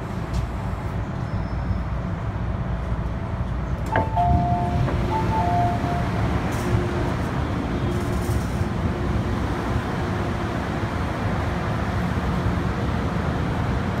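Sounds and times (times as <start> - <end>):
metro platform rumble: 0.0 - 14.0.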